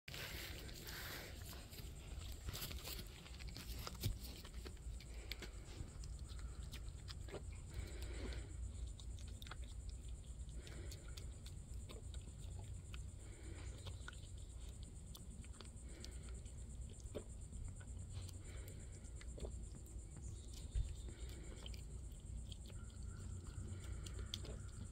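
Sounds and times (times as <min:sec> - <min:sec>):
deer chewing grapes: 0:00.1 - 0:24.9.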